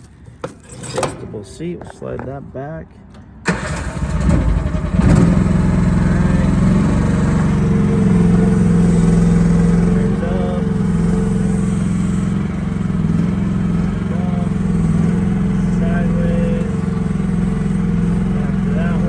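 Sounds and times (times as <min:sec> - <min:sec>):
small gasoline engine running: 0:03.5 - 0:19.0.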